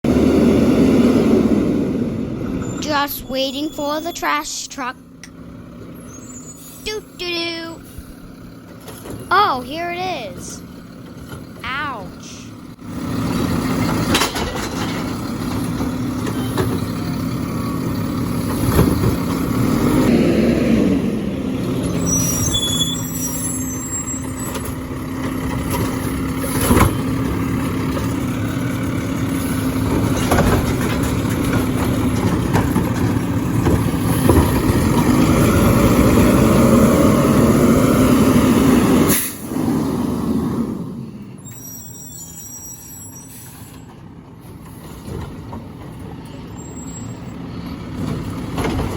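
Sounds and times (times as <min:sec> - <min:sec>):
garbage truck engine revving: 0:00.0 - 0:42.6.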